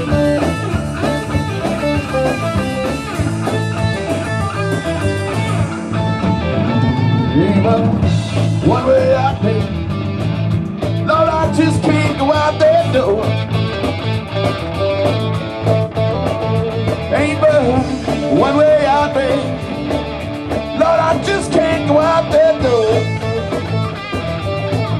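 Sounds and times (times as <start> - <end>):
electric guitar lead lines: 0.0 - 24.9
rock band playing: 0.0 - 24.9.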